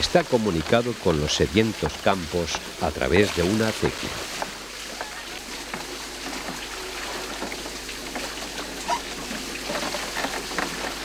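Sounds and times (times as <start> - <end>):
turning wooden wheel knocking: 0.0 - 11.0
water pouring and splashing: 0.0 - 11.0.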